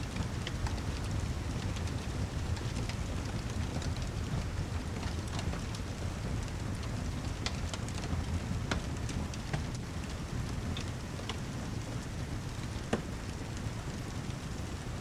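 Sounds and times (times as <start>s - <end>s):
heavy rain: 0.1s - 15.0s.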